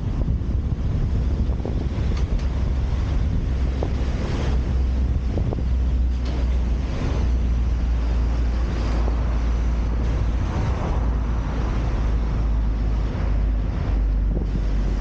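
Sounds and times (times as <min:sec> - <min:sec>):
tyre and road noise: 0:00.0 - 0:15.0
wind rumble on microphone: 0:00.0 - 0:15.0.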